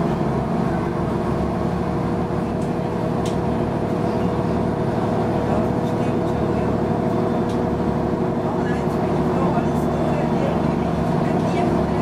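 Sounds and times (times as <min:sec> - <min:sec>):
bus diesel engine drone: 0:00.0 - 0:12.0.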